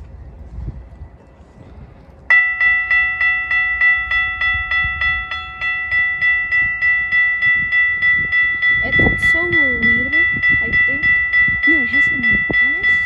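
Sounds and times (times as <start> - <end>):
railroad crossing warning bell: 2.3 - 13.0.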